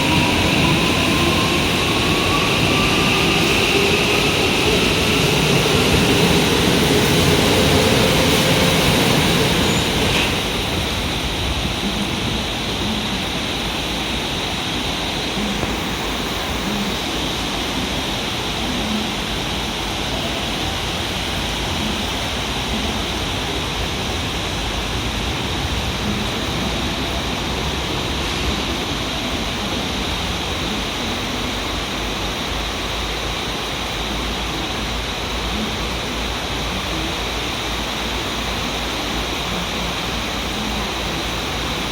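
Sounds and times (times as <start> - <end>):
train rushing noise: 0.0 - 41.9.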